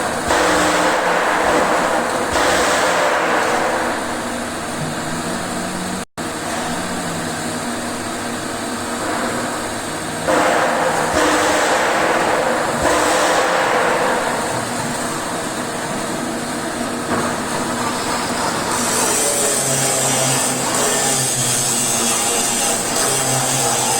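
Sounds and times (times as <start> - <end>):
welding arc hissing and buzzing: 0.0 - 23.9.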